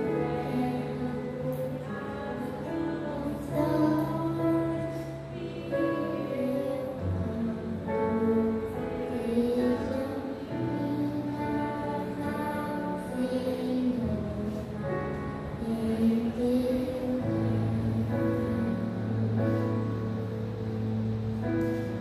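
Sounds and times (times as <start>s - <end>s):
girl singing into a microphone: 0.0s - 20.4s
instrumental backing track: 0.0s - 22.0s.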